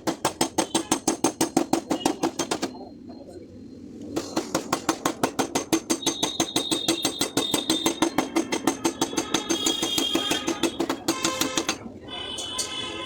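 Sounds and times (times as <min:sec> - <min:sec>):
rapid tapping on sheet metal: 0:00.0 - 0:02.8, 0:04.2 - 0:11.9.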